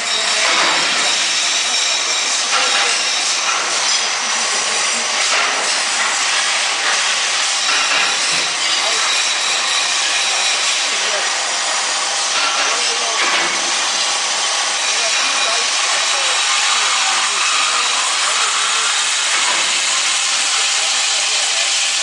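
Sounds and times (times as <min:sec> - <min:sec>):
band saw cutting: 0:00.0 - 0:22.0.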